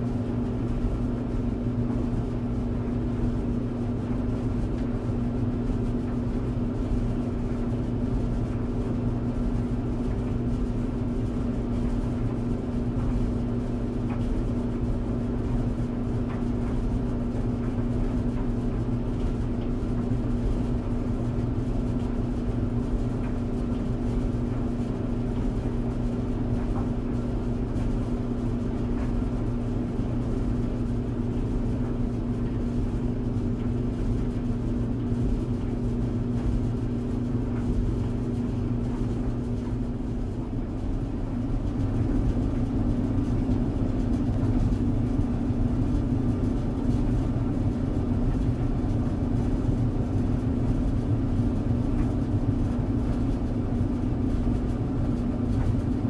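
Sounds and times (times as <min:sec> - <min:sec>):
tumble dryer humming: 0:00.0 - 0:56.0.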